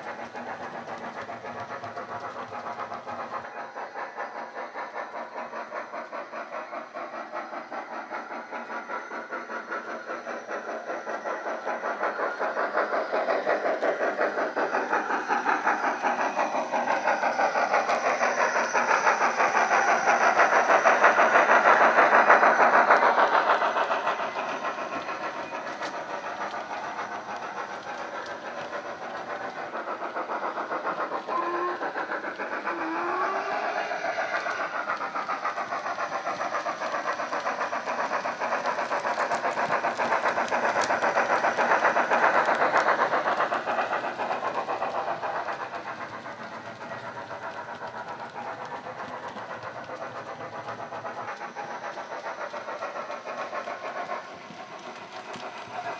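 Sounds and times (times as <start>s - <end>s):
steam exhaust beat from speaker: 0.0s - 55.9s.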